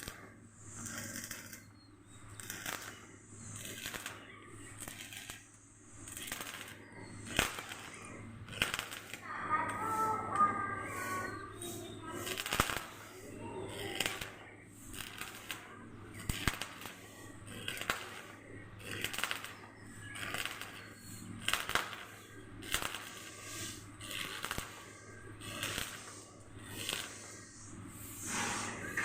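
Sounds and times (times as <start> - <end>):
noisy strokes with sharp clicks: 0.0 - 29.0
steady low hum: 0.0 - 29.0.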